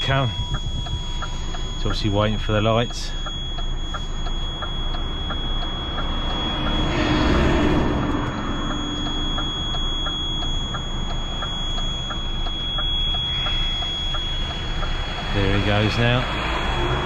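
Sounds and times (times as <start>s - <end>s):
diesel engine idling: 0.0s - 17.0s
flasher relay ticking: 0.0s - 17.0s.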